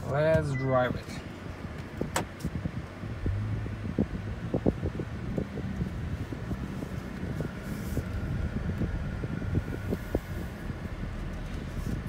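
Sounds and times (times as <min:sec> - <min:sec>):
car engine low hum: 0:00.0 - 0:12.0.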